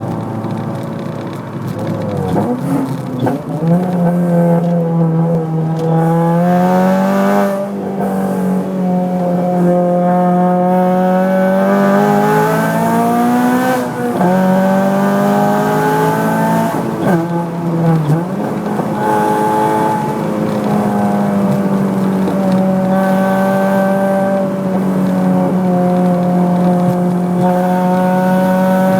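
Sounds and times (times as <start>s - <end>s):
car engine accelerating: 0.0s - 28.9s.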